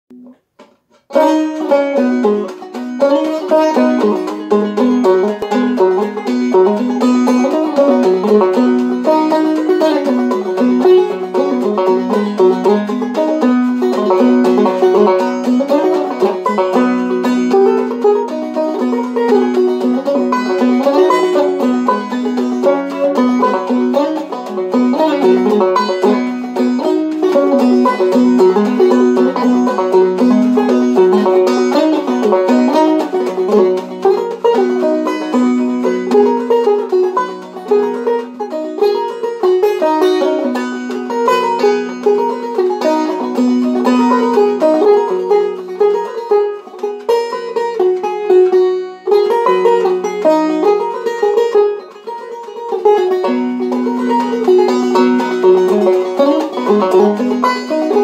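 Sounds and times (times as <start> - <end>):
banjo picking: 0.1 - 58.0.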